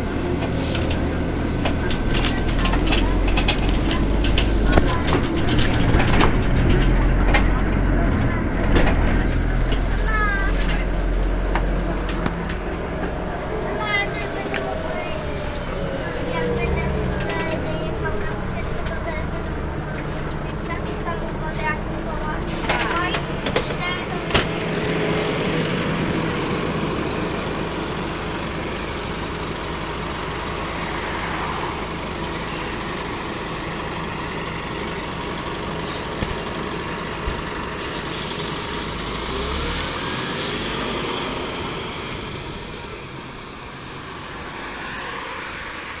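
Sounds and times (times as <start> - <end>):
bus engine idling and revving: 0.0 - 46.0.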